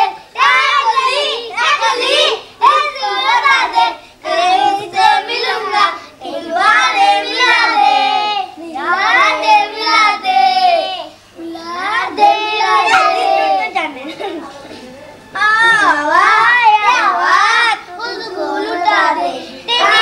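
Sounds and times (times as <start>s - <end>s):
children singing: 0.0s - 13.7s, 15.4s - 20.0s.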